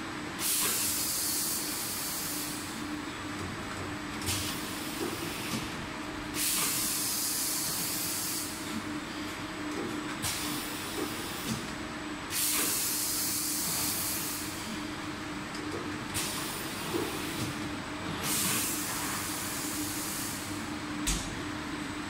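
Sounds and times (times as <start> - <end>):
packaging machine humming: 0.4 - 22.0.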